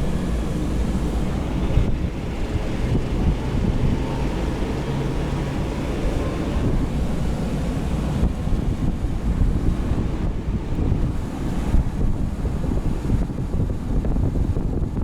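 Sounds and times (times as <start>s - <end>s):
semi truck engine rumbling: 0.0s - 15.0s
wind noise: 0.0s - 15.0s.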